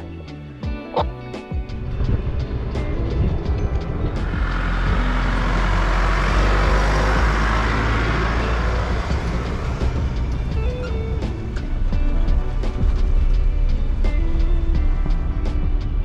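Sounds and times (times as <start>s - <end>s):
vehicle engine rumble: 0.0s - 16.0s
rush of noise: 0.9s - 16.0s.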